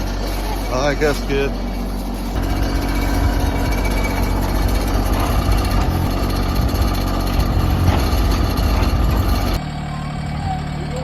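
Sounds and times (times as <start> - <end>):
engine running low rumble: 0.0 - 11.0.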